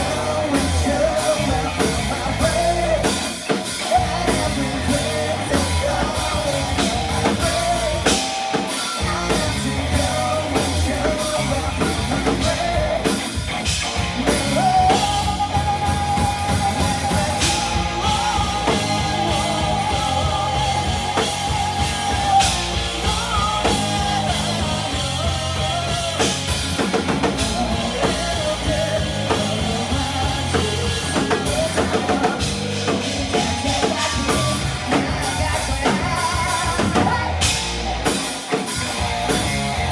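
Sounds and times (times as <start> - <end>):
person singing: 0.0 - 39.8
drum kit: 0.0 - 39.9
guitar: 0.0 - 39.9.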